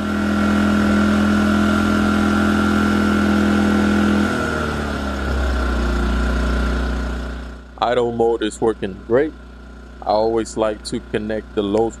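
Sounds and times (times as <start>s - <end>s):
generator engine idling: 0.0s - 12.0s.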